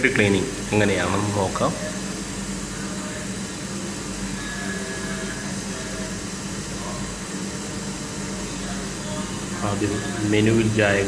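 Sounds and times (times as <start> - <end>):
even hiss: 0.0 - 11.0
steady background hum: 0.0 - 11.0.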